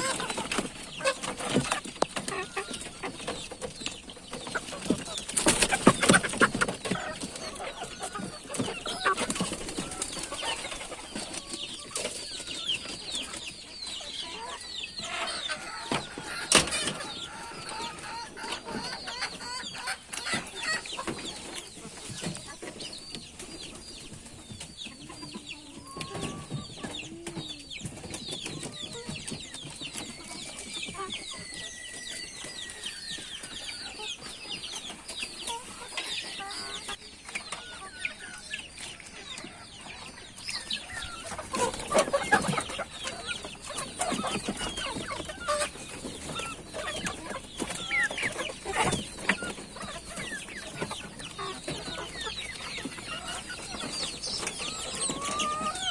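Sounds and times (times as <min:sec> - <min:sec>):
chickens clucking and calling: 0:00.0 - 0:55.9.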